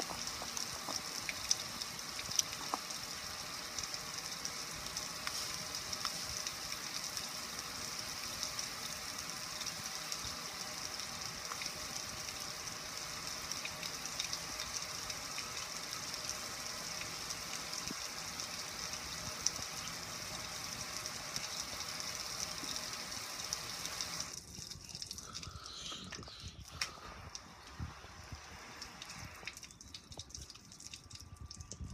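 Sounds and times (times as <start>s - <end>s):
water spattering onto concrete: 0.0s - 31.9s.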